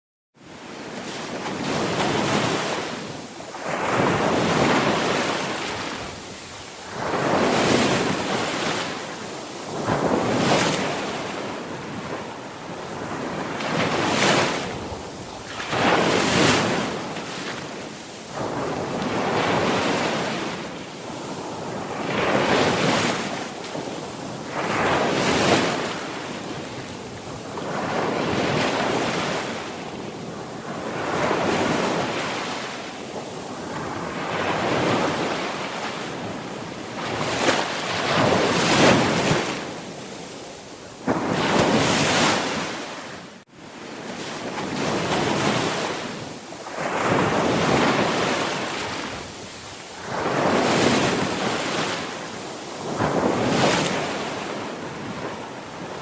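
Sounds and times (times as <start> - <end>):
sea waves breaking: 0.7 - 56.0.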